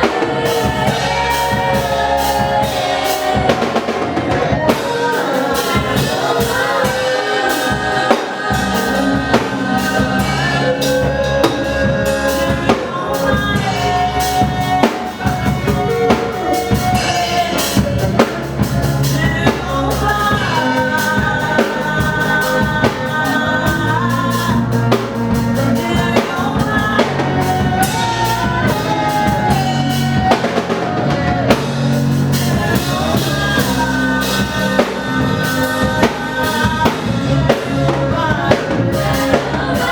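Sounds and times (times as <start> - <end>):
bass: 0.0 - 39.9
drum kit beat: 0.0 - 39.9
person singing: 0.0 - 39.9.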